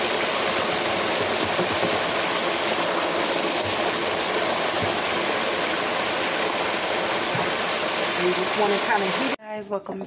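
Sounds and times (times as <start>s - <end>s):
oil sizzling and bubbling: 0.0s - 9.4s.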